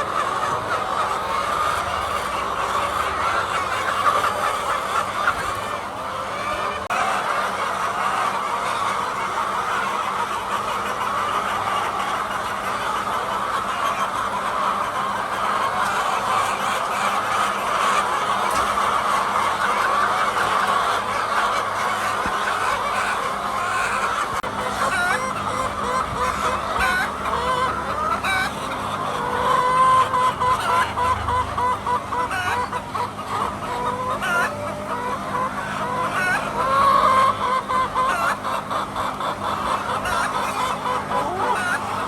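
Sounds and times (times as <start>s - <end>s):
hens clucking: 0.0s - 42.0s.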